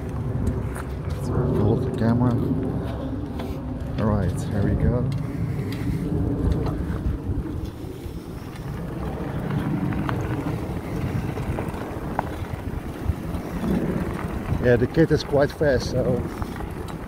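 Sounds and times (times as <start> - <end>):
wind rumbling on microphone: 0.0 - 17.0
bike tyres crunching on gravel: 2.7 - 17.0.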